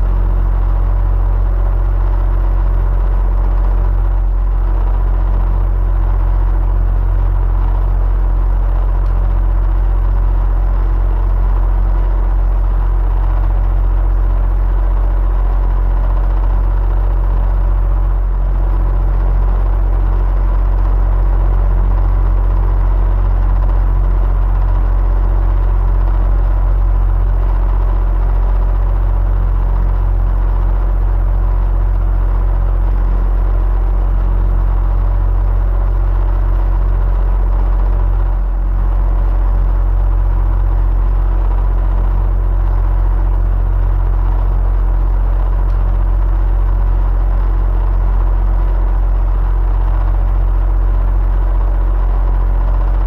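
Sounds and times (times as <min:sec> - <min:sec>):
electric fan humming: 0:00.0 - 0:53.0.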